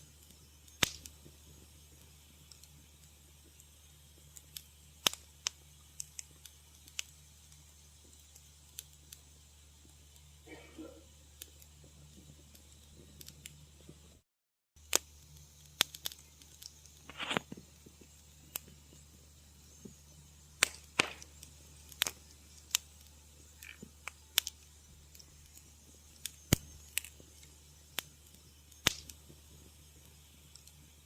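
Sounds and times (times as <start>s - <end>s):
wood fire crackling: 0.0s - 14.2s, 14.8s - 31.0s.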